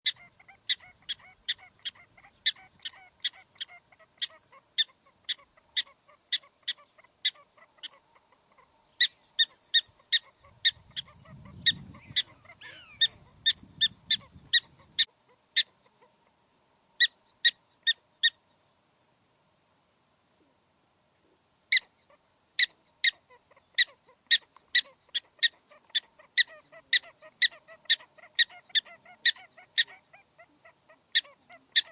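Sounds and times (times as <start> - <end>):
prairie dog chirping calls: 0.0 - 16.3, 21.7 - 31.9.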